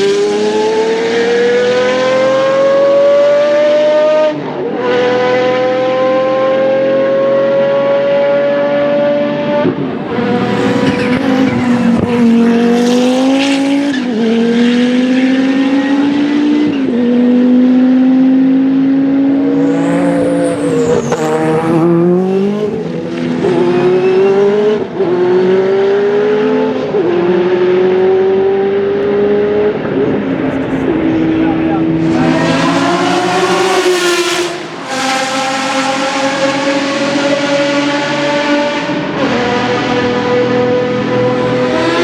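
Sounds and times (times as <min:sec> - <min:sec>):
racing car engines accelerating: 0:00.0 - 0:42.0.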